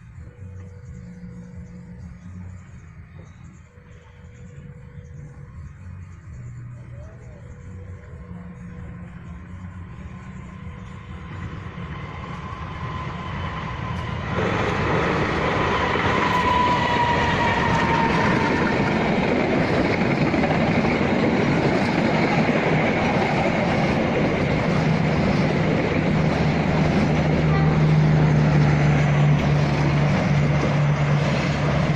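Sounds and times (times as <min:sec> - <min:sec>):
passenger train passing: 0:00.0 - 0:31.9.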